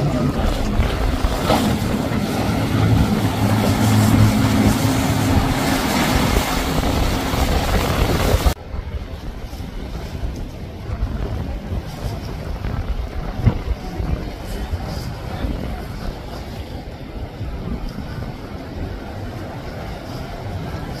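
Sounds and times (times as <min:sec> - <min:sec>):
outboard engines droning: 0:00.0 - 0:21.0
water spray and hull noise: 0:00.0 - 0:21.0
wind and water: 0:00.0 - 0:21.0.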